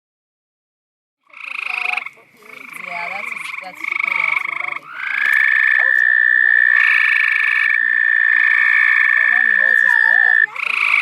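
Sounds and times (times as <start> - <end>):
frogs trilling: 1.2 - 11.0.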